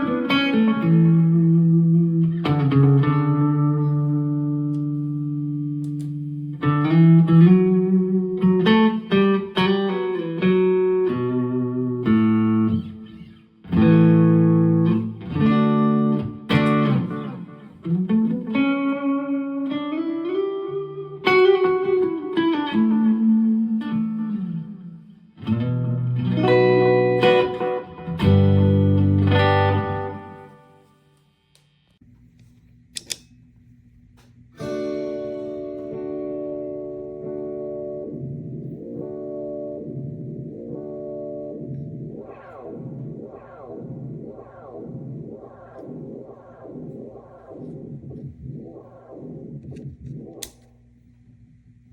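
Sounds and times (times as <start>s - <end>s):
electric guitar with delay and reverb: 0.0s - 31.0s, 34.6s - 50.5s.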